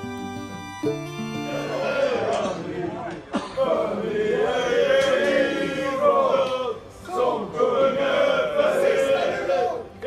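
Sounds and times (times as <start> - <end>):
football supporters chanting: 1.7 - 10.0.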